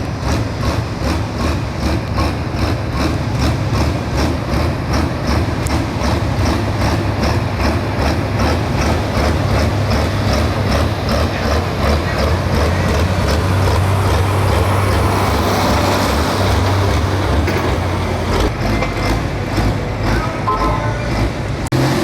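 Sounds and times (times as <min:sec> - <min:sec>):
heavy diesel engine rumbling: 0:00.0 - 0:22.0.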